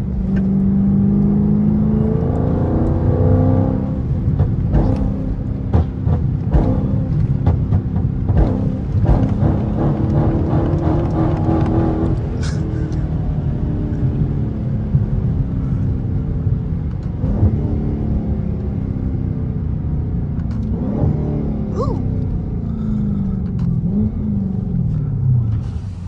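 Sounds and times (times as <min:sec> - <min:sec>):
car engine revving while driving: 0:00.0 - 0:26.0.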